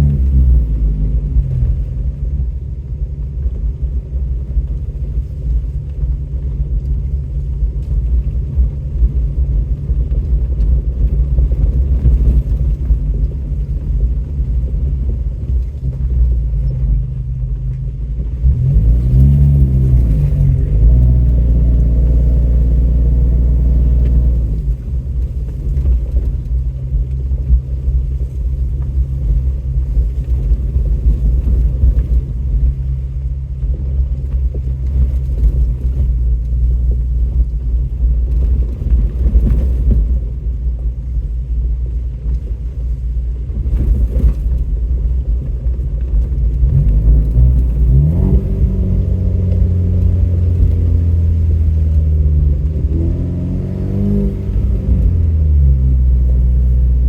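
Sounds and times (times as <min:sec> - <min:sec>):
truck engine rumbling: 0:00.0 - 0:57.0.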